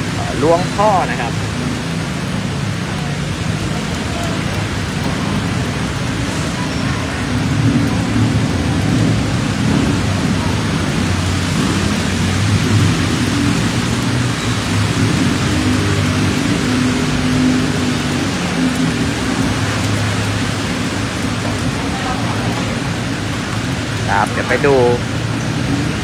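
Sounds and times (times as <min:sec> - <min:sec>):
cars driving through water: 0:00.0 - 0:26.0
heavy rain hissing: 0:00.0 - 0:26.0
running floodwater: 0:00.0 - 0:26.0.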